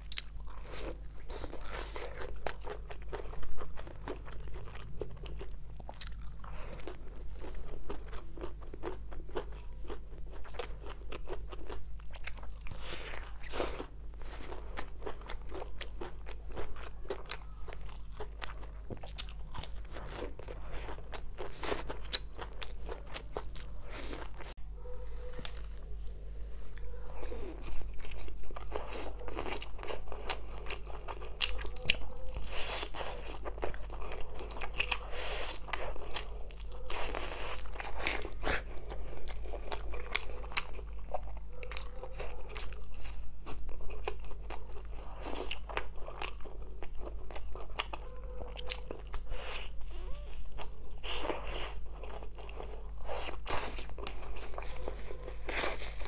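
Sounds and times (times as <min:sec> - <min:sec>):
biting and chewing meat: 0:00.0 - 0:56.0
low steady hum: 0:00.0 - 0:56.0.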